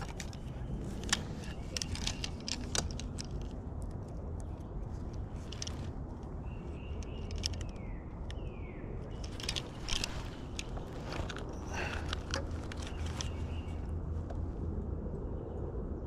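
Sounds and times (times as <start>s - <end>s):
clicks and rustling handling noises: 0.0s - 14.5s
steady low rumble: 0.0s - 16.0s.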